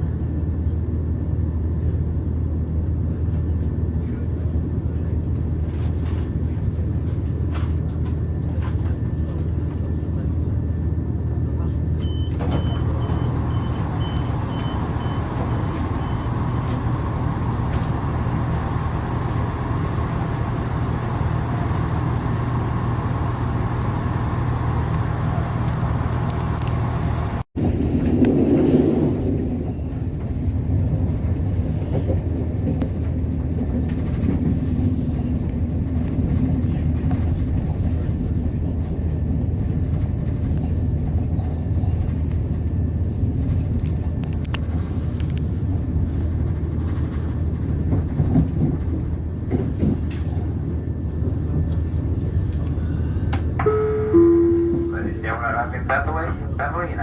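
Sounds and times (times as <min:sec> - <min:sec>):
low engine hum: 0:00.0 - 0:57.0
train rumbling: 0:00.0 - 0:57.0.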